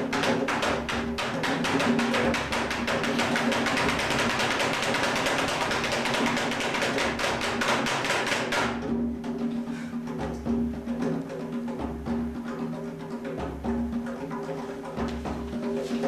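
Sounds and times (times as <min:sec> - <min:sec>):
fast percussion strikes: 0:00.0 - 0:16.0.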